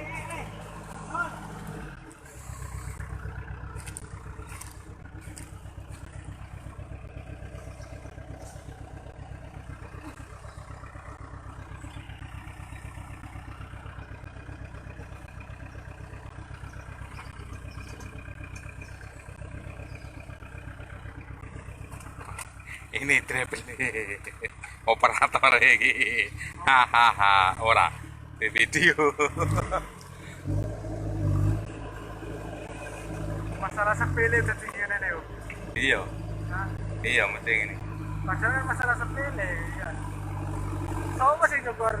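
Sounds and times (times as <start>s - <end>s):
diesel engine running steadily: 0.0s - 42.0s.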